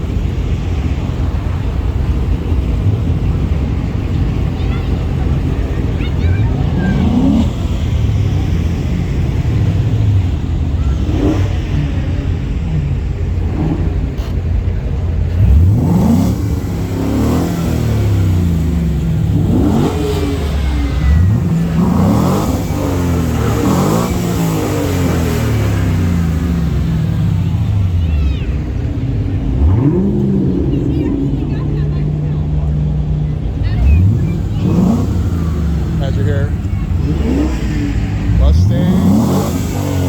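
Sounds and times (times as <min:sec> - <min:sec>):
car engines revving: 0:00.0 - 0:40.0
steady traffic noise: 0:00.0 - 0:40.0.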